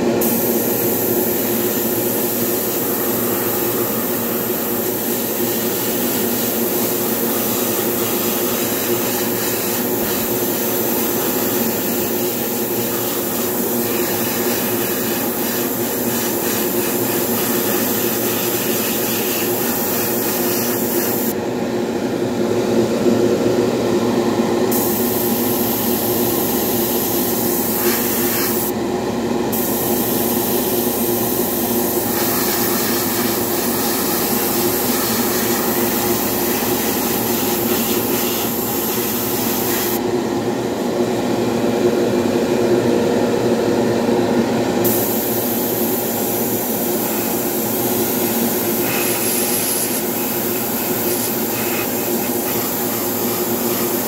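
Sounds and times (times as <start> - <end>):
airbrush hissing: 0.2 - 21.4, 24.7 - 28.7, 29.5 - 40.0, 44.8 - 54.0.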